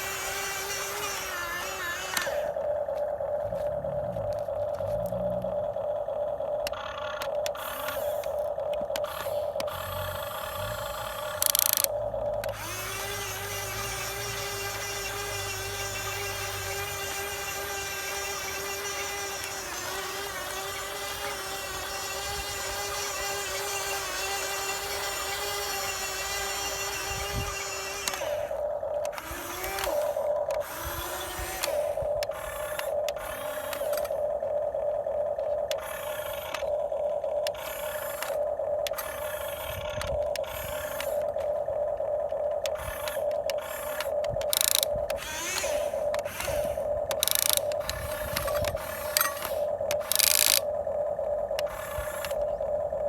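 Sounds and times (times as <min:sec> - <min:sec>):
clicks: 0:00.0 - 0:12.9, 0:18.2 - 0:52.9
small electric motor whining: 0:00.0 - 0:53.0.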